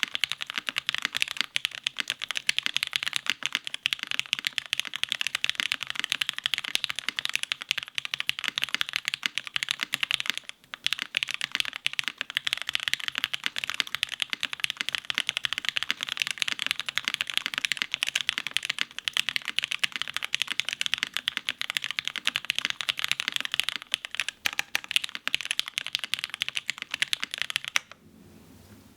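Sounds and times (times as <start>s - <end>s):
typing on mechanical keyboard: 0.0s - 28.0s.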